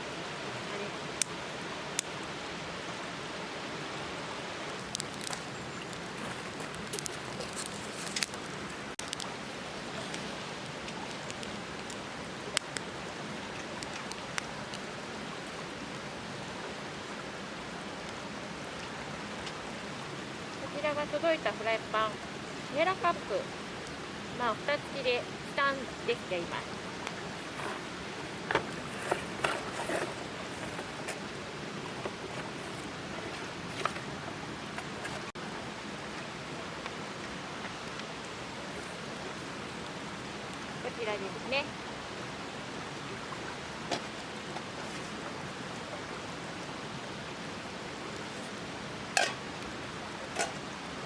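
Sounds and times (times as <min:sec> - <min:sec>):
outdoor background hiss: 0:00.0 - 0:51.0
wood fire crackling: 0:00.6 - 0:03.0, 0:04.0 - 0:17.2, 0:18.0 - 0:51.0.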